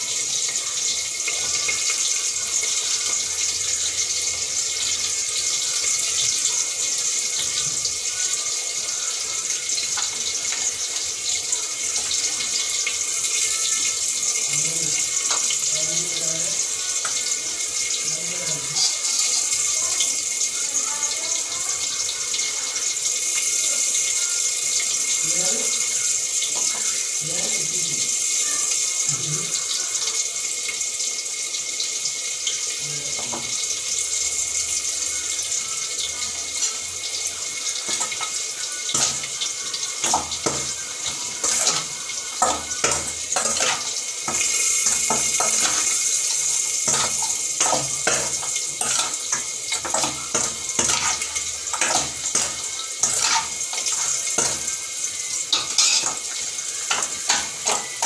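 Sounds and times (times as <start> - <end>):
tap water running into sink: 0.0 - 58.0.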